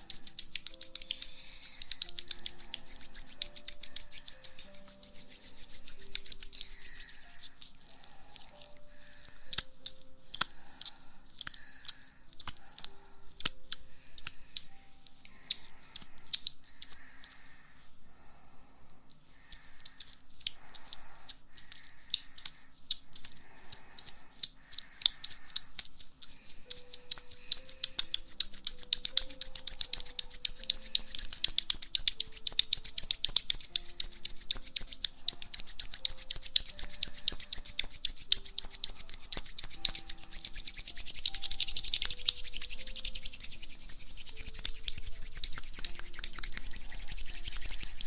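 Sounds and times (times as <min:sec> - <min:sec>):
soft background music: 0:00.0 - 0:48.0
sticky gel ear massage: 0:00.0 - 0:48.0.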